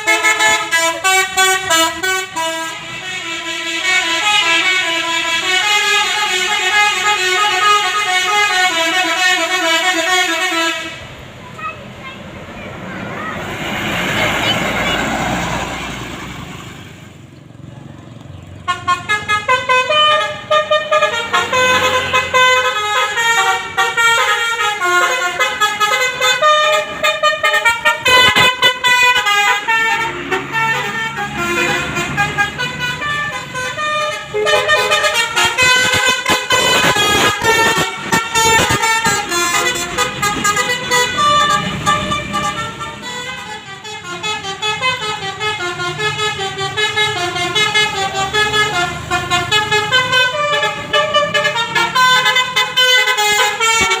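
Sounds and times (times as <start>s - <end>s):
bus horn playing a melody: 0.0s - 11.8s, 18.6s - 54.0s.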